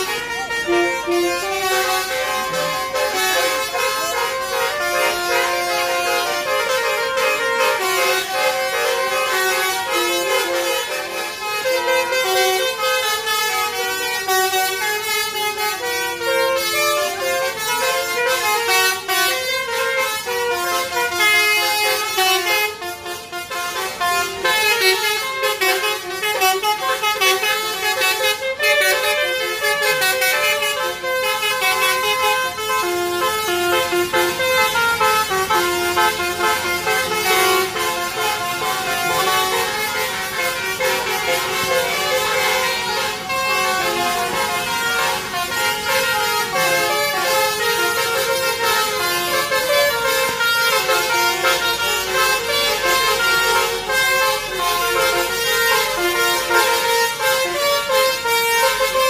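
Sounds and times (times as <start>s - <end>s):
multi-tone bus horn tune: 0.0s - 59.0s.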